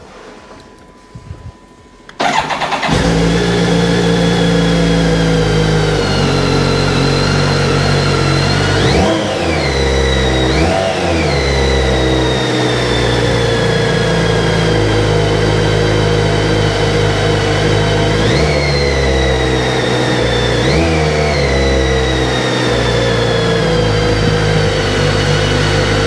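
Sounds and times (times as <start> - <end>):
motorcycle engine starting and idling: 2.1 - 26.0
engine revving: 2.2 - 26.0.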